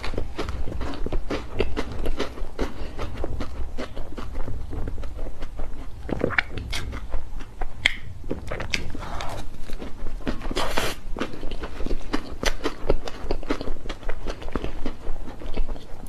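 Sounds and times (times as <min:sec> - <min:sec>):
low steady rumble: 0:00.0 - 0:16.0
mouth chewing and smacking: 0:00.0 - 0:16.0.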